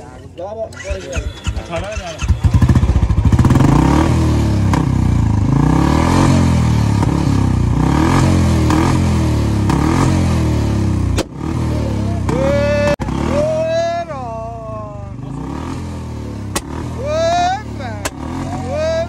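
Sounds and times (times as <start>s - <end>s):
motorcycle engine revving: 0.7s - 19.0s.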